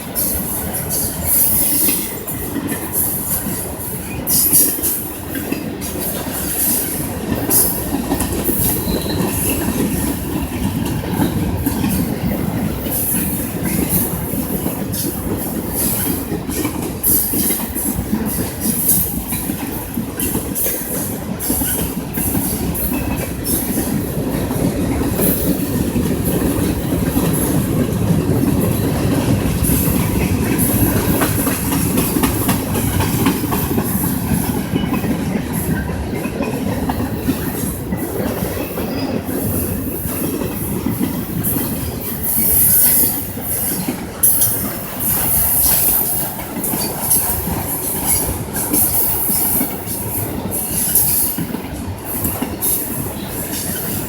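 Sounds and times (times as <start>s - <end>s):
freight cars rumbling on rails: 0.0s - 54.0s
wheels clicking over rail joints: 0.0s - 54.0s.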